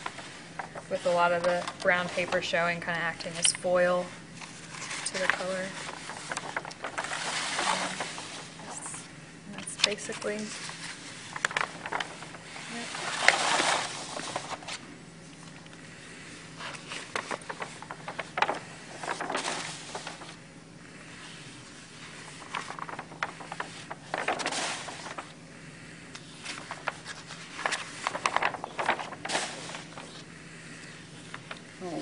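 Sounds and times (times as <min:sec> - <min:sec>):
faint room hum: 0:00.0 - 0:32.0
paper sheets rustling and crackling: 0:00.0 - 0:32.0.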